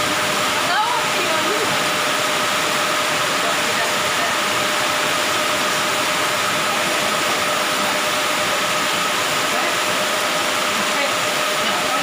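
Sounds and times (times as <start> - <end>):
motor running evenly: 0.0 - 12.0.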